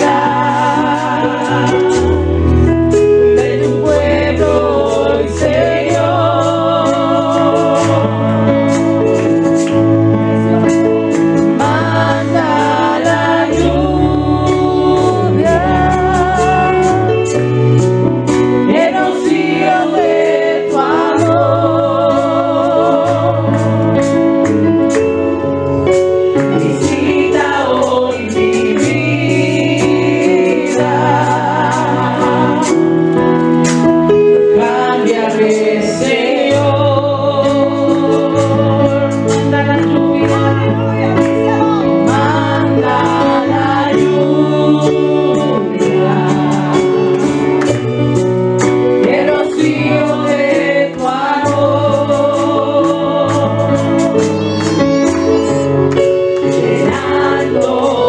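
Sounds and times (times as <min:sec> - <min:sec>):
women singing gospel song: 0:00.0 - 0:09.6, 0:10.4 - 0:24.2, 0:26.3 - 0:33.4, 0:34.1 - 0:48.0, 0:48.7 - 0:54.4, 0:55.7 - 0:58.0.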